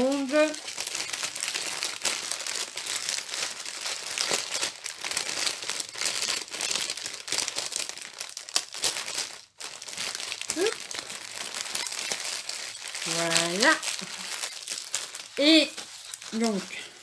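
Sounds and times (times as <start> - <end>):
plastic packets crinkling: 0.0 - 17.0.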